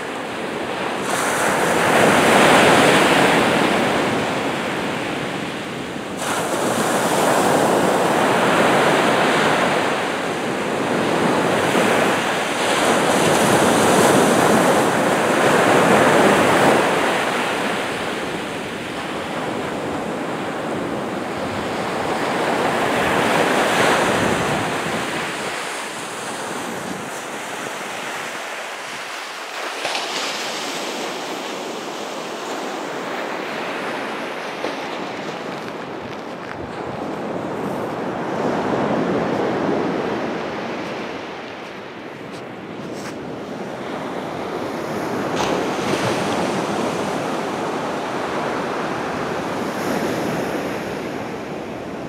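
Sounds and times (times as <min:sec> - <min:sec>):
sea waves breaking on beach: 0:00.0 - 0:52.0.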